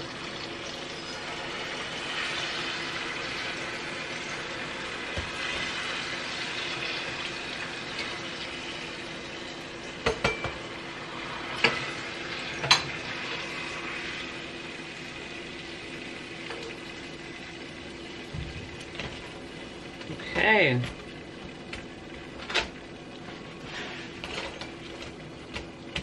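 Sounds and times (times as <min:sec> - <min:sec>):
food deep-frying in oil: 0:00.0 - 0:26.0.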